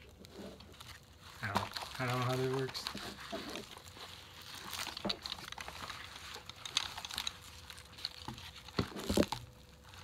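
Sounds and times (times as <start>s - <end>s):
fabric and webbing rustling: 0.0s - 10.0s.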